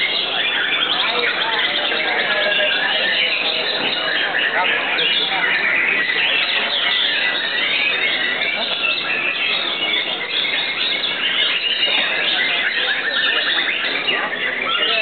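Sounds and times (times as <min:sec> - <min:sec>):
chorus of songbirds whistling: 0:00.0 - 0:15.0.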